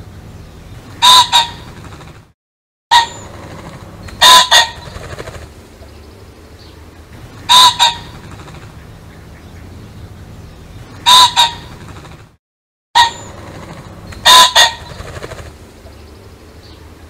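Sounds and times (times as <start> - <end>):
pheasant calling: 1.0 - 1.8, 2.9 - 12.1, 13.0 - 17.0.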